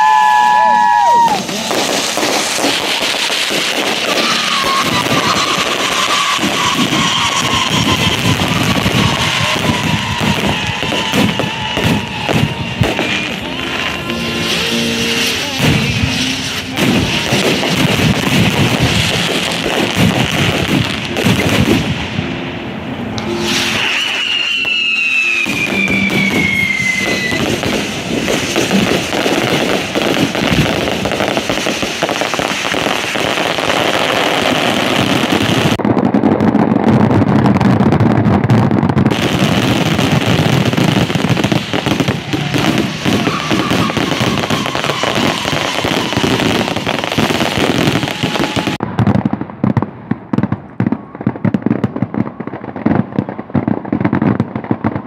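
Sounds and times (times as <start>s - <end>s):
firework whistle falling in pitch: 0.0s - 35.8s, 39.1s - 48.8s
fireworks bangs and crackling: 0.0s - 55.0s.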